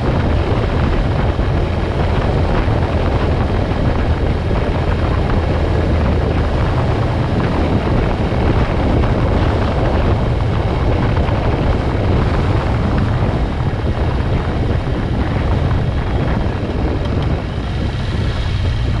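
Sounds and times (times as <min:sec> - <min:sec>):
motorcycle engine rumble: 0:00.0 - 0:19.0
wind rushing over microphone: 0:00.0 - 0:19.0.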